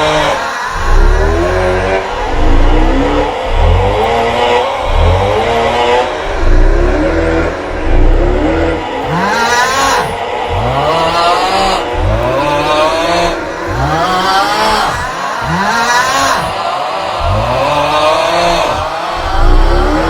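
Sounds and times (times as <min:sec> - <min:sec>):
snore-groan meme sound: 0:00.0 - 0:20.0
deep booming bass: 0:00.8 - 0:15.6, 0:17.2 - 0:20.0.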